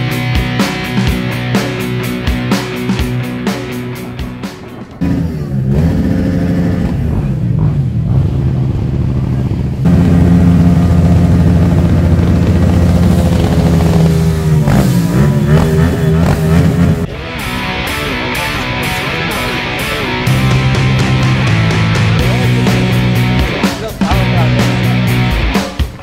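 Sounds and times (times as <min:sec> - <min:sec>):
rock music with guitar: 0:00.0 - 0:06.0, 0:09.9 - 0:26.0
motorcycle engines revving: 0:00.0 - 0:26.0.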